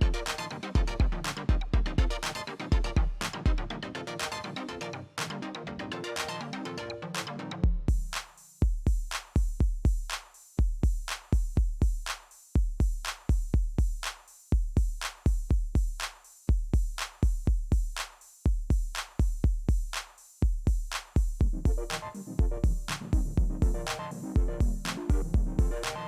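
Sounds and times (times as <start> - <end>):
electronic drum-machine beat: 0.0 - 4.6, 7.2 - 26.0.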